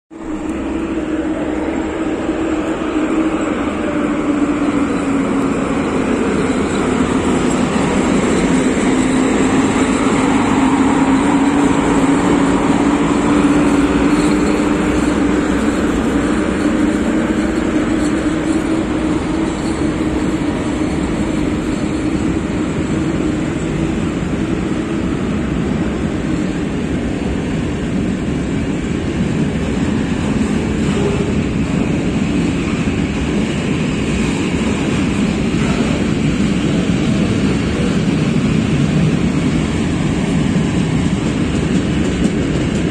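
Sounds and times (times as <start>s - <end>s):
electric freight train rumbling: 0.1s - 42.9s.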